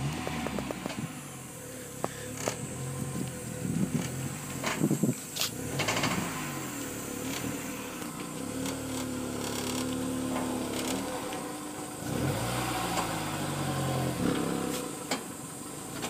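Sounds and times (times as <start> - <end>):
wheel bearing humming: 0.0 - 16.0.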